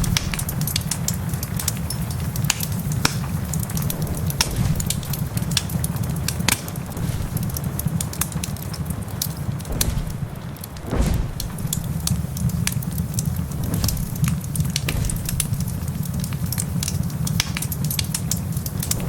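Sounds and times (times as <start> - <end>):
fire popping: 0.0 - 19.0
fire rumbling: 0.0 - 19.0
wood fire crackling: 0.0 - 19.0.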